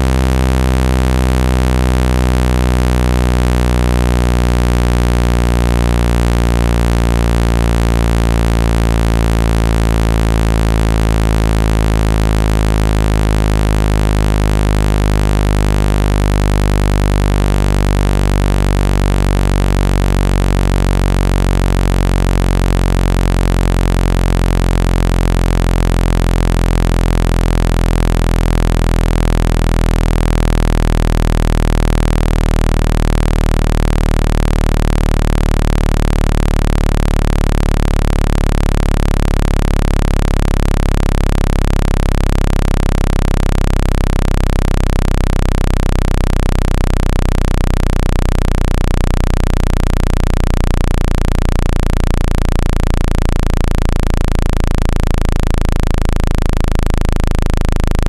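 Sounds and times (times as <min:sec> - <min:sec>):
low synthetic hums: 0:00.0 - 0:58.0.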